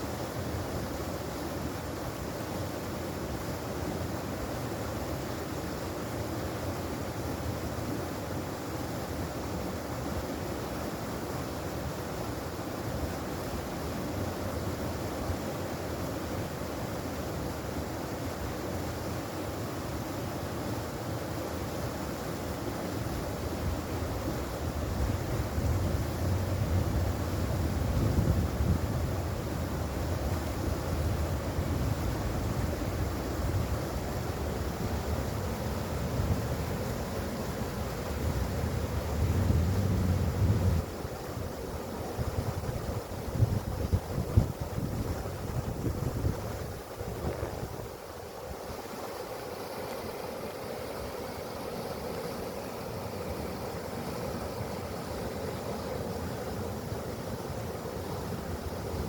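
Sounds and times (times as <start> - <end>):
stream rushing: 0.0 - 59.0.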